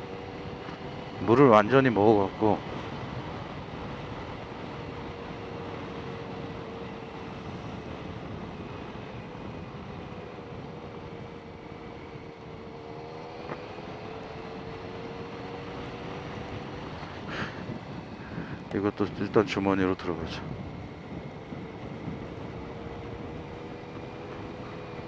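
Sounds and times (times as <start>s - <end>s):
motorcycle engine: 0.0s - 18.4s, 20.7s - 25.0s
wind: 0.0s - 25.0s.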